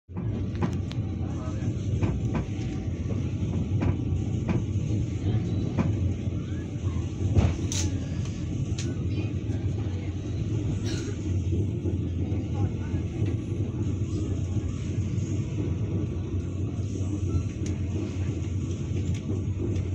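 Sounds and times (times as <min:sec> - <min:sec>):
train rumbling inside carriage: 0:00.1 - 0:19.9.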